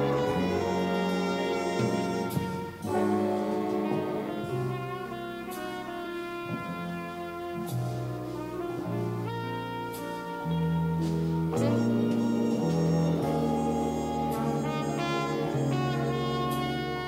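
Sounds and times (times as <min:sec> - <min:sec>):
jazz big band ballad: 0:00.0 - 0:17.0.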